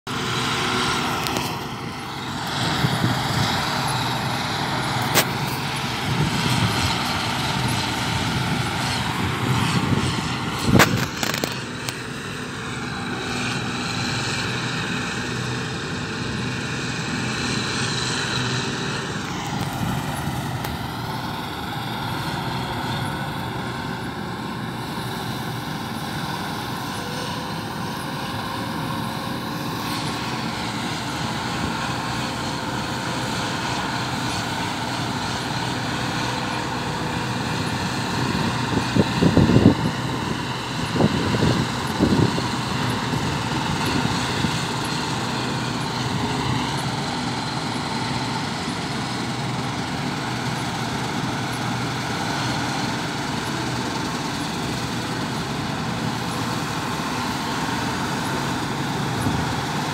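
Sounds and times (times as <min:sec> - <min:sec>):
combine harvester droning: 0:00.1 - 0:59.9.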